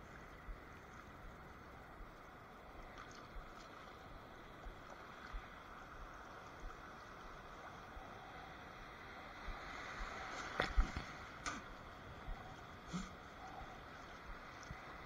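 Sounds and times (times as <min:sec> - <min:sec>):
water washing at shoreline: 0:00.0 - 0:15.0.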